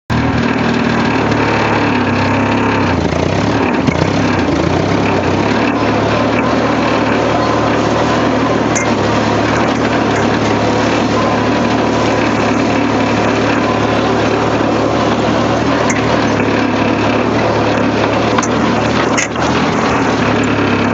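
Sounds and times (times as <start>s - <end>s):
tractor engine running: 0.1s - 20.9s.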